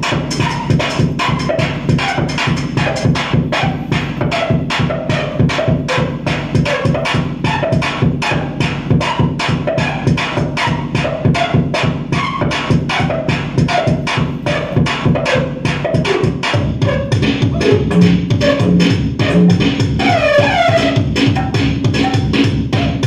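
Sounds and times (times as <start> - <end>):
fast pulsing electronic beat: 0.0 - 23.0.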